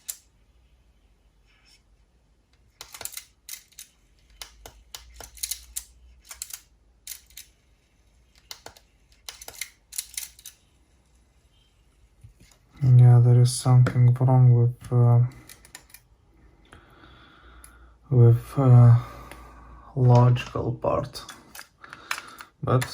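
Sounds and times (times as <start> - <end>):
faint low hum: 0.0 - 22.9.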